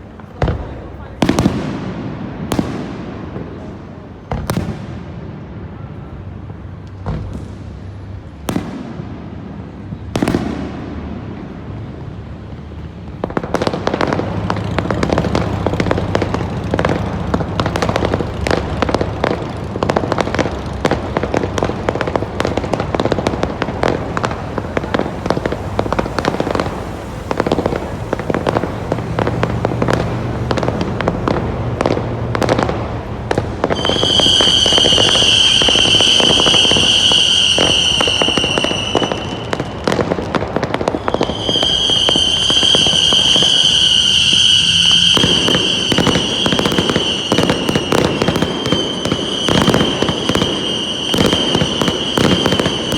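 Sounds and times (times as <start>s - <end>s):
fireworks crackling and banging: 0.0s - 52.9s
whistling fireworks: 0.0s - 52.9s.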